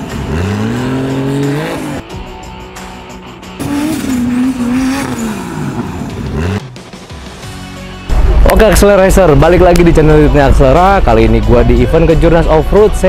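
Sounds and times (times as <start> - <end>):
buggy engines revving: 0.0 - 12.6.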